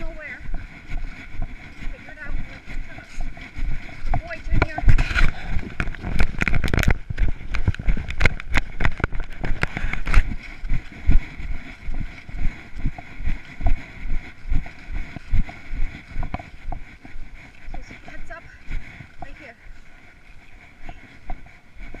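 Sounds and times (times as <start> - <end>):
footsteps on grass and dry leaves: 0.0 - 22.0
sharp crackles and clicks: 0.0 - 22.0.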